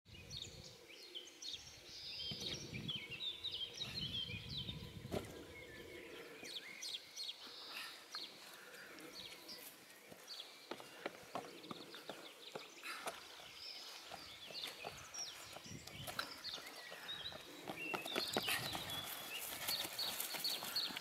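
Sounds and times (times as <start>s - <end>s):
small birds chirping: 0.1s - 21.0s.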